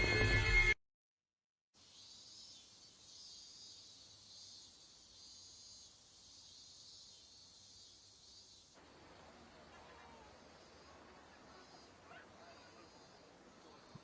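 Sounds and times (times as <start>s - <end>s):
insects chirring: 1.8s - 14.0s.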